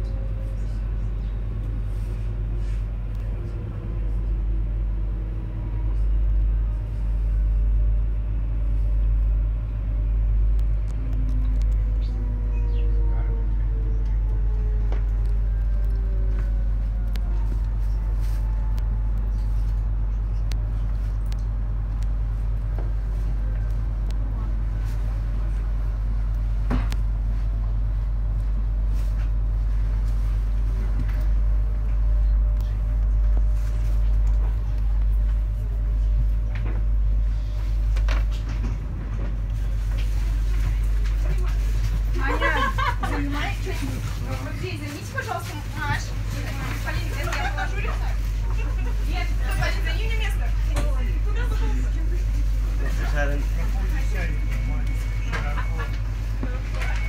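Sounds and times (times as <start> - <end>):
train cabin rumble and hum: 0.0 - 57.0.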